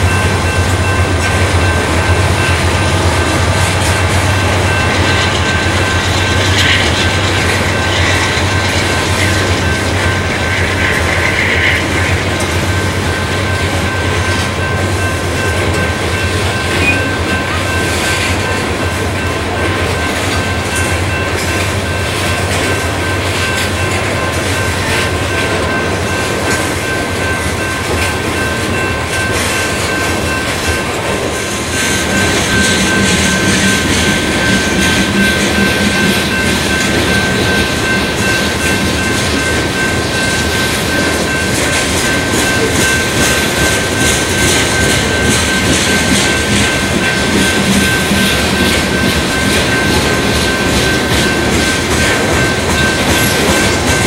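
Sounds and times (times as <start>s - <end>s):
train wheels clattering on rail: 0.0s - 54.0s.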